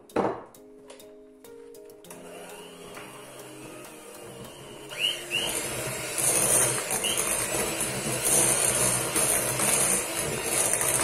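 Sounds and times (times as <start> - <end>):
electric hand mixer running: 2.1 - 11.0.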